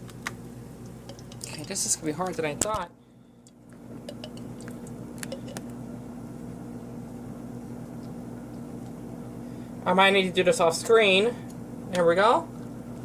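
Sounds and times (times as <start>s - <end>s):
appliance electric hum: 0.0s - 13.0s.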